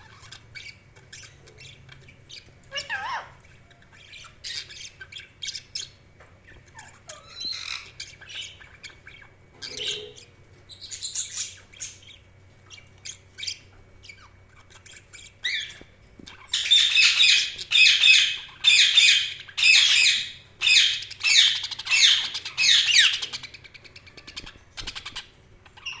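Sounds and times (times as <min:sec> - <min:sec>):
budgerigars chirping: 0:00.0 - 0:26.0
loud bird calls: 0:00.0 - 0:26.0.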